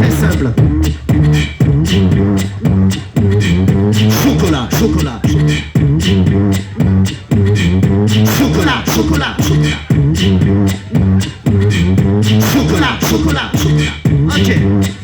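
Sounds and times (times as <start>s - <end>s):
beatboxing kick and snare: 0.0s - 15.0s
low sung bass line: 0.0s - 15.0s.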